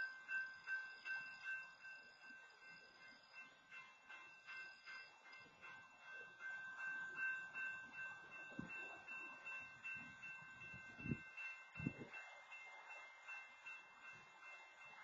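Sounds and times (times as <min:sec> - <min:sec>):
crossing warning bell ringing: 0:00.0 - 0:15.0.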